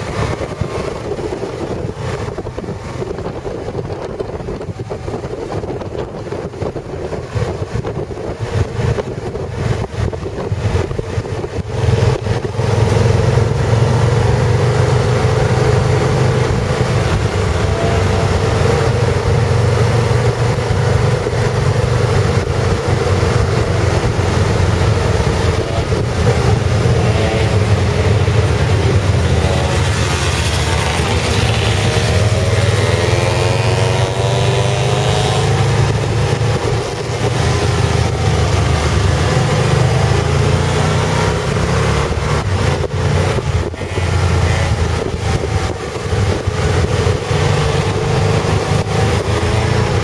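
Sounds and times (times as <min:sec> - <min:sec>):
motorcycle engine running: 0:00.0 - 0:50.0
wind buffeting microphone: 0:00.0 - 0:50.0.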